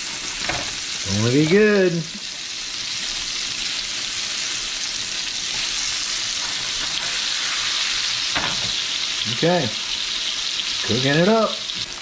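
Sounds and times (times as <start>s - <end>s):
fish sizzling in a skillet: 0.0s - 12.0s.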